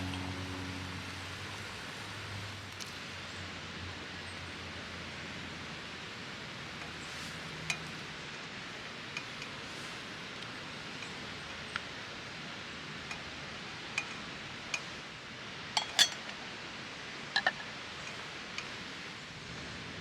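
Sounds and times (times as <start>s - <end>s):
forest ambience hiss: 0.0s - 20.0s.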